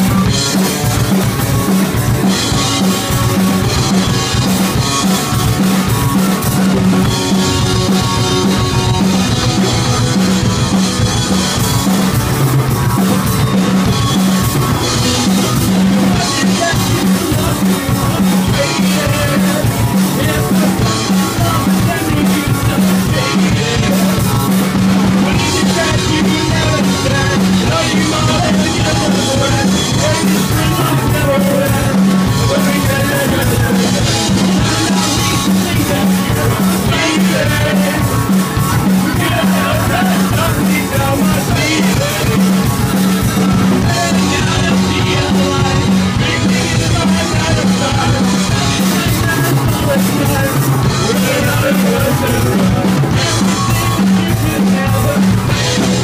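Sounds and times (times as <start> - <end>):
rock band playing loudly: 0.0 - 56.0.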